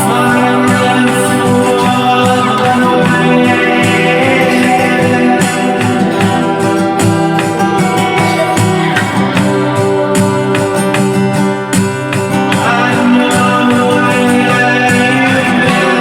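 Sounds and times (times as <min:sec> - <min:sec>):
guitar music: 0:00.0 - 0:16.0
steady percussion beat: 0:00.0 - 0:16.0.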